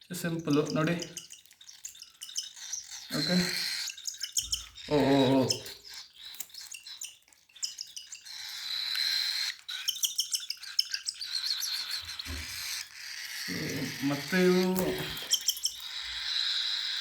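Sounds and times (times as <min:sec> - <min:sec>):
chicks chirping: 0:00.0 - 0:17.0
thin held squeal: 0:00.3 - 0:17.0.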